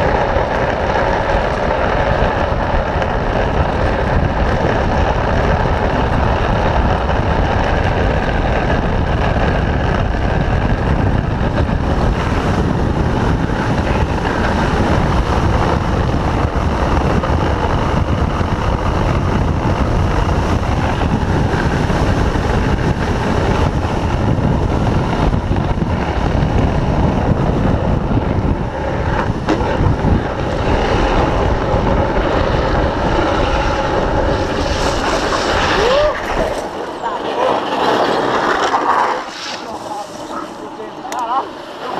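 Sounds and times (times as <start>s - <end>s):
wheels scraping on road: 0.0s - 41.9s
wind buffeting microphone: 0.0s - 41.9s.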